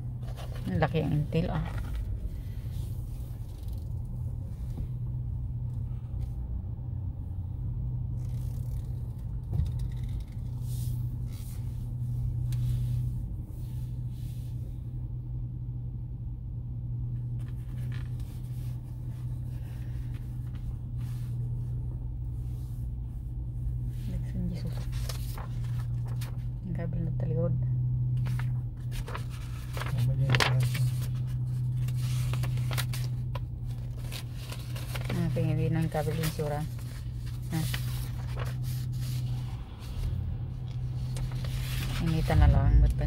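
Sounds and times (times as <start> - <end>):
engine and tyre rumble: 0.0 - 43.0.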